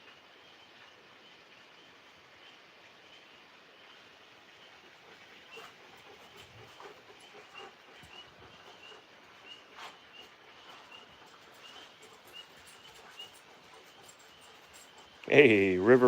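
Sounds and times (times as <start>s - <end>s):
tree frogs chirping: 0.0s - 16.0s.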